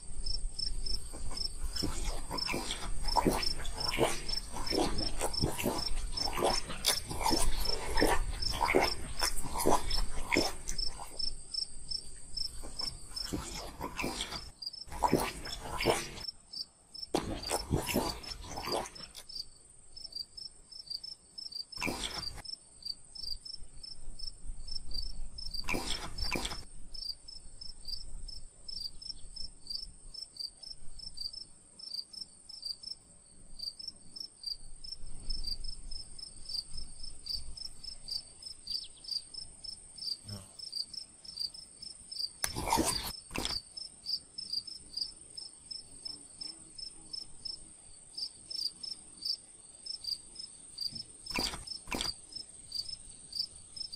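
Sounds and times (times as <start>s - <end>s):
insects chirping: 0.0s - 53.9s.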